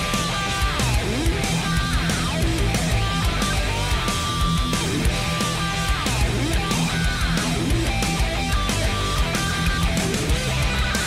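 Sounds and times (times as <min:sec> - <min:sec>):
rock music with strummed guitar: 0:00.0 - 0:11.0.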